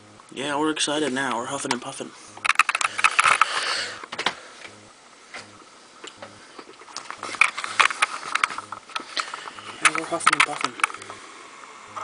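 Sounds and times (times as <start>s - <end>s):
snake hissing: 2.1s - 12.0s.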